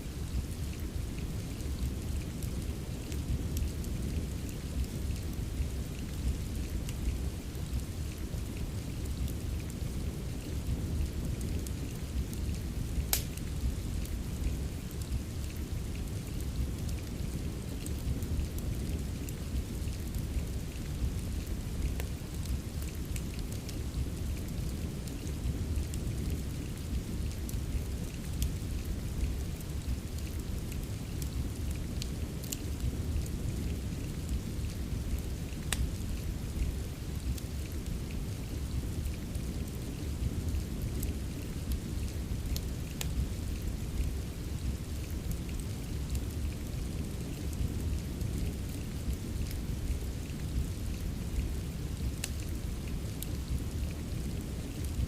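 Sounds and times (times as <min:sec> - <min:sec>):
steady rain: 0:00.0 - 0:55.0
wood fire crackling: 0:00.0 - 0:55.0.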